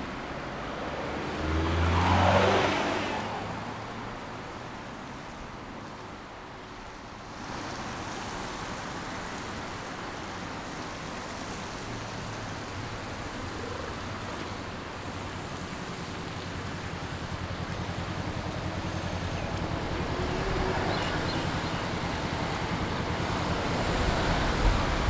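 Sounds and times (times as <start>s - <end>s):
traffic tyres and engines hissing: 0.0s - 25.0s.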